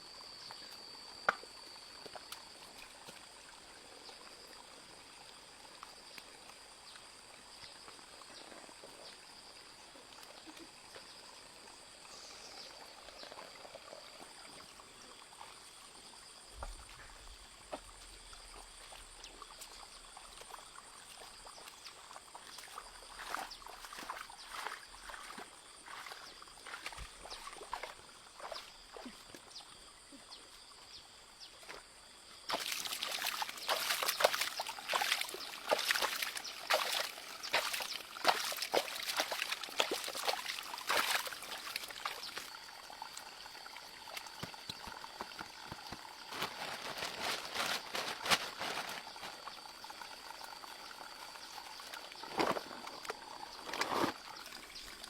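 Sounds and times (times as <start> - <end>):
stream trickling and splashing: 0.0 - 55.0.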